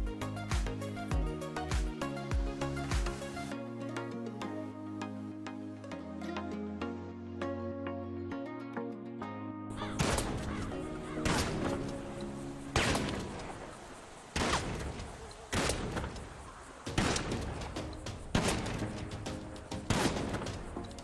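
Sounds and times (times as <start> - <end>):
background music with held tones: 0.0 - 13.6, 16.9 - 21.0.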